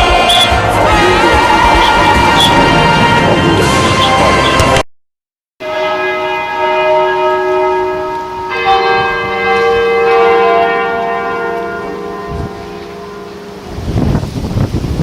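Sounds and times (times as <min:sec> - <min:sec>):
church bells ringing: 0:00.0 - 0:04.8, 0:05.6 - 0:13.9.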